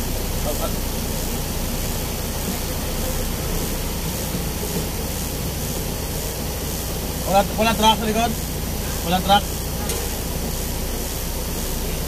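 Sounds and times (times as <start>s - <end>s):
even hiss: 0.0s - 12.0s
truck engine idling: 0.0s - 12.0s.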